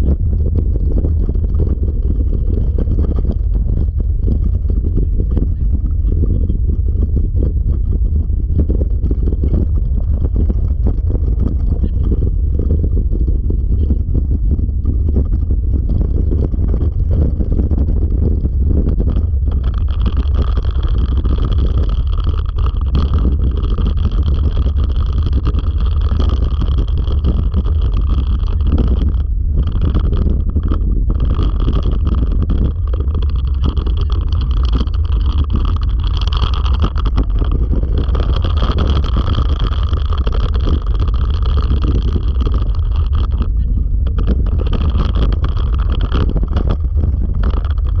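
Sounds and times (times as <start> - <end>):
wheels rumbling on dirt trail: 0.0 - 48.0
wind on microphone: 0.0 - 48.0.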